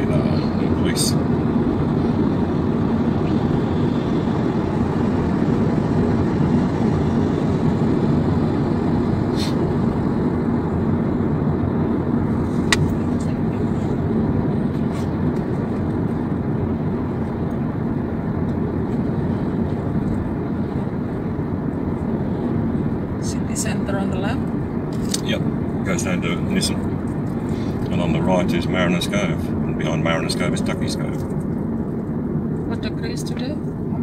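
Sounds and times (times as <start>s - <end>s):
car cruising on highway: 0.0s - 34.0s.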